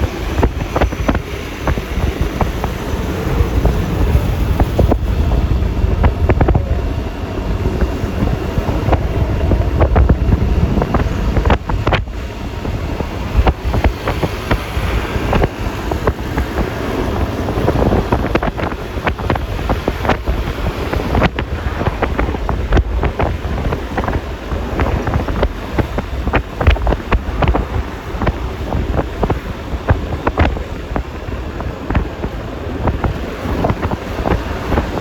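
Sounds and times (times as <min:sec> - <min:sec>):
scooter engine and road noise: 0:00.0 - 0:35.0
wind buffeting microphone: 0:00.0 - 0:35.0.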